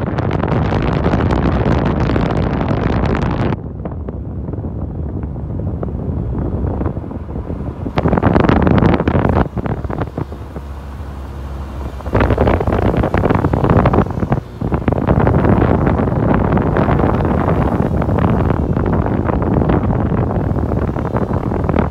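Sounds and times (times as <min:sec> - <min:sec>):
low rumble of movement: 0:00.0 - 0:21.9
wind buffeting microphone: 0:00.0 - 0:21.9.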